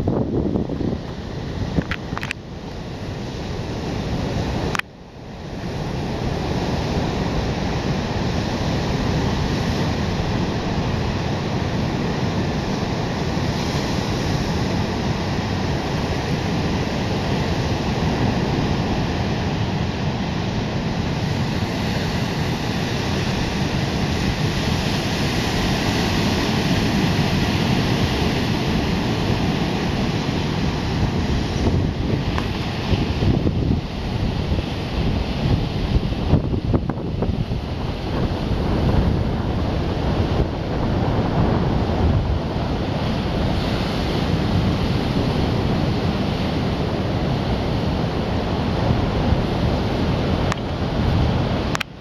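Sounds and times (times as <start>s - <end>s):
surf breaking on beach: 0.0s - 52.0s
wind on microphone: 0.0s - 52.0s.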